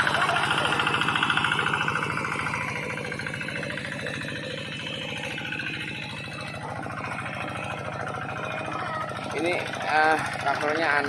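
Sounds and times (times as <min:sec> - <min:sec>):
small tractor engine chugging: 0:00.0 - 0:11.0.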